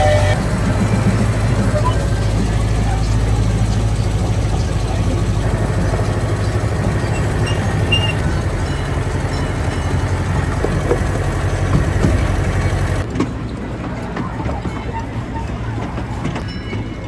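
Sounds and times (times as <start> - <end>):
amusement ride rumble: 0.0 - 17.0.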